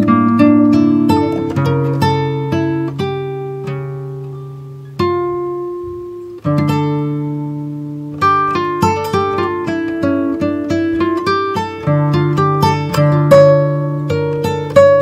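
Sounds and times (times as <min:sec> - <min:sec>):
slow plucked-string tune: 0:00.0 - 0:15.0.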